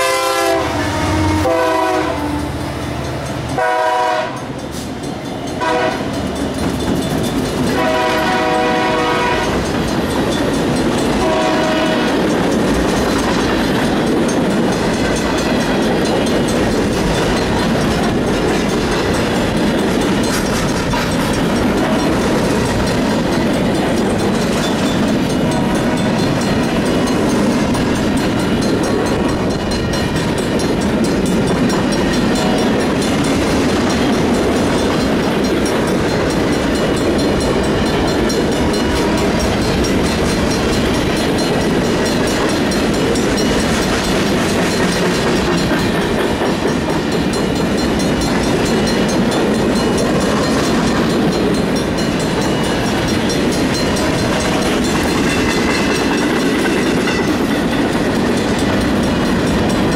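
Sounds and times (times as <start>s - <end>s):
freight train cars rolling past: 0.0s - 59.9s.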